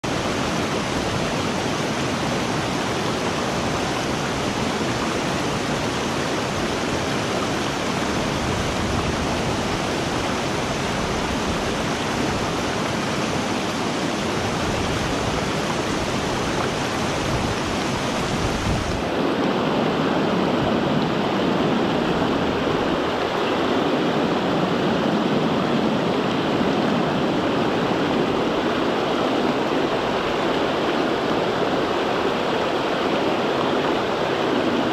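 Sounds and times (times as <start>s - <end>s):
river water rushing over rocks: 0.0s - 34.9s.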